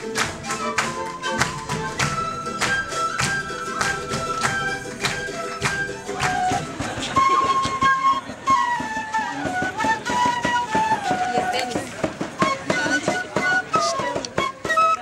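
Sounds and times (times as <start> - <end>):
flutes playing a melody: 0.0 - 15.0
steady drum beat: 1.1 - 15.0.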